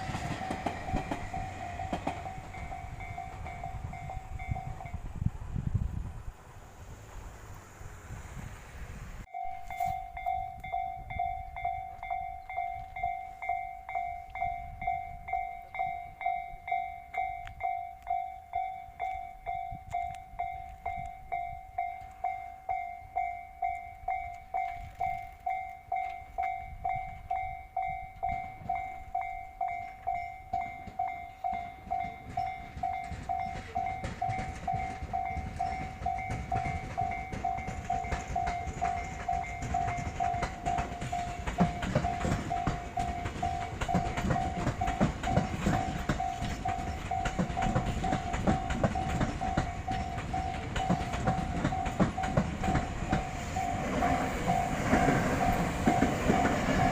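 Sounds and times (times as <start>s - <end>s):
level-crossing warning bell dinging: 0.0s - 5.2s, 9.2s - 56.9s
train rumbling over rails: 0.0s - 56.9s.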